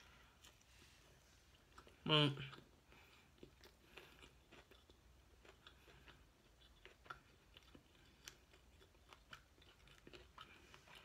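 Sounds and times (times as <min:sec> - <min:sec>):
faint closed-mouth chewing: 0:00.1 - 0:11.0.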